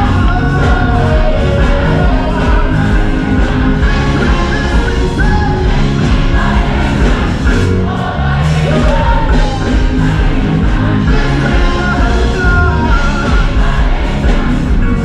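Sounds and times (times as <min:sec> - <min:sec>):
children's choir singing gospel: 0:00.0 - 0:15.0
live band playing: 0:00.0 - 0:15.0.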